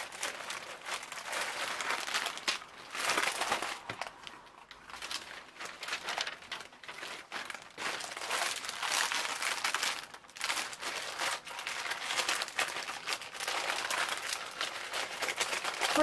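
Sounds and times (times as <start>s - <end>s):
plastic packets crinkling: 0.0s - 16.0s.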